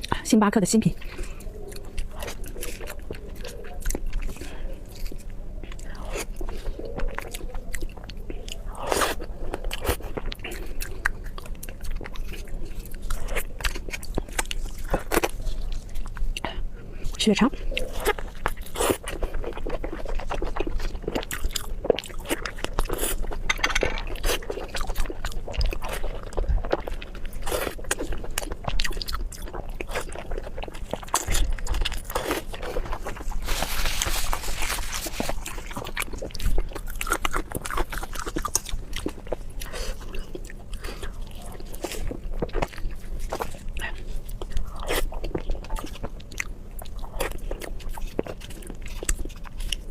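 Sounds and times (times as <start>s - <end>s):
person chewing and crunching: 0.8s - 49.9s.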